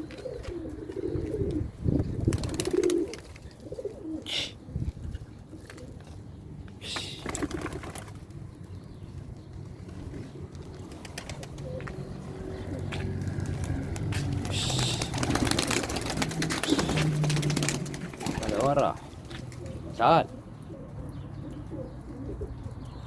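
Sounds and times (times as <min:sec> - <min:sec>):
pigeons cooing: 0:00.0 - 0:08.2, 0:09.7 - 0:23.0.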